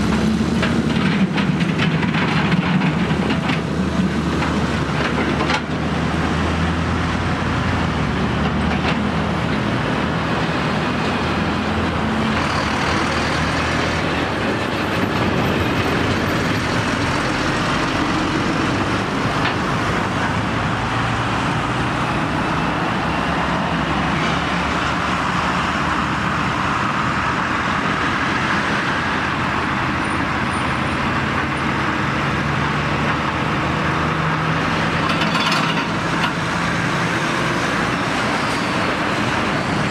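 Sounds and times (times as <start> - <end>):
lorry diesel engines: 0.0 - 39.9
tractor engine running: 0.0 - 39.9
tyre and traffic noise: 0.0 - 39.9.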